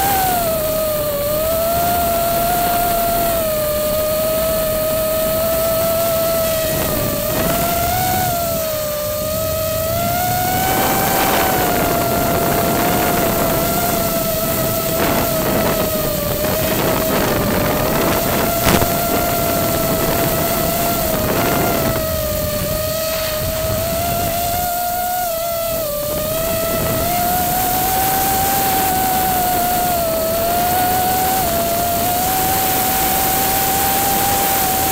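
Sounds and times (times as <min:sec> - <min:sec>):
constant noisy hiss: 0:00.0 - 0:34.9
drone motors whining: 0:00.0 - 0:34.9.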